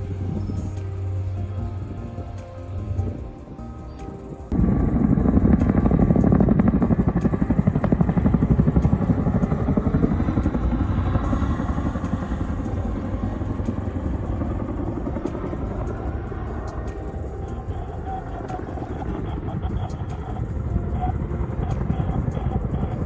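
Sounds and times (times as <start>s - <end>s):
vehicle engine pulsing: 0.0s - 23.0s.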